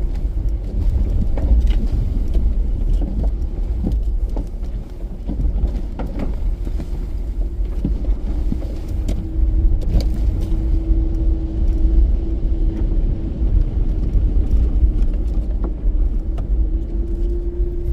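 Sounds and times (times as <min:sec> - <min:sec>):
off-road vehicle engine rumble: 0:00.0 - 0:17.9.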